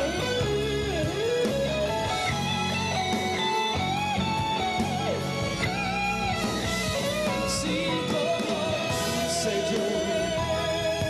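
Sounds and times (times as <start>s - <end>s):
orchestra playing slow ballad: 0.0s - 11.0s.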